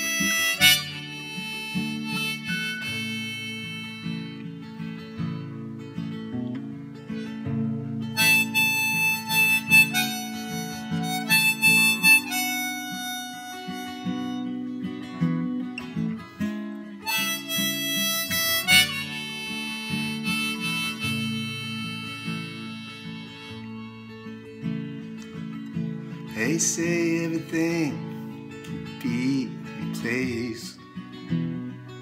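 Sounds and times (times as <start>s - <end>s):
harmonica melody: 0.0s - 6.2s, 7.0s - 32.0s
acoustic guitar strumming: 0.0s - 32.0s.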